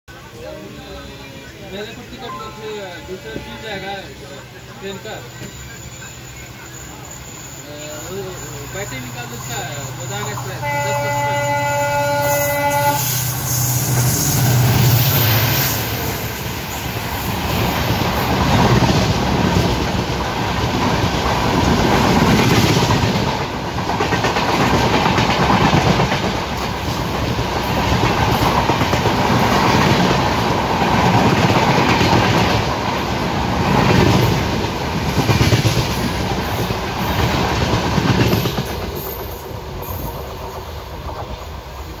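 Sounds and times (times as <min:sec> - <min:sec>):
diesel locomotive drone: 0:00.1 - 0:42.0
train wheels clickety-clack: 0:07.2 - 0:42.0.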